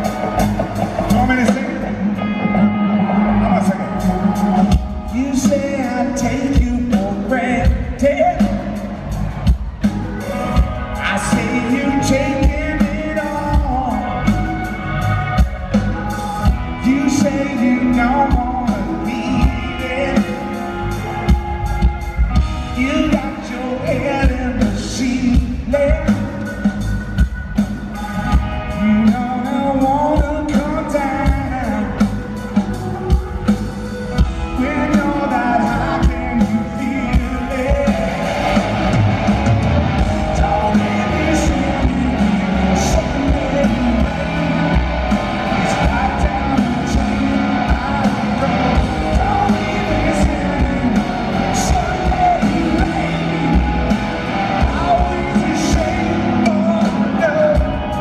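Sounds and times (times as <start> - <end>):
live rock band: 0.0 - 58.0
man singing lead vocal: 1.0 - 9.1, 10.0 - 26.8, 28.1 - 58.0.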